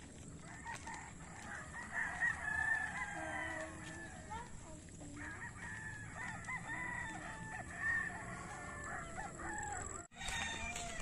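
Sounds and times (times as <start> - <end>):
roosters crowing: 0.3 - 11.0.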